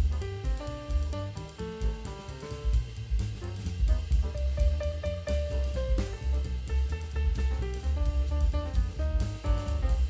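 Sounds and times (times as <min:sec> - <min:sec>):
background music with drums and bass: 0:00.0 - 0:10.0.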